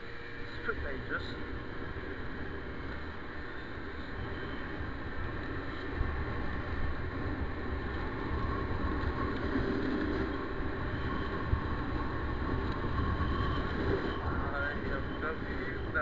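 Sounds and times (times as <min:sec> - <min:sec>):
small motorbike engine running: 0:00.0 - 0:16.0
wind rumbling on microphone: 0:00.8 - 0:16.0.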